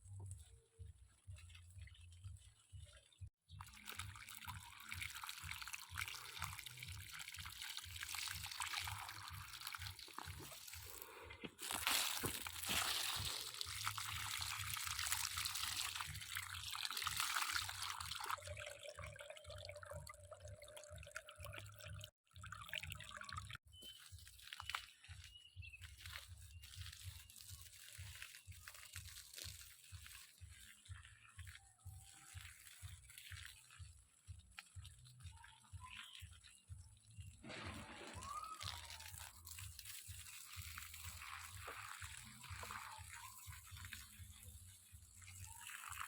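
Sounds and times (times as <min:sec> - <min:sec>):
water pouring and splashing: 0:00.0 - 0:46.0.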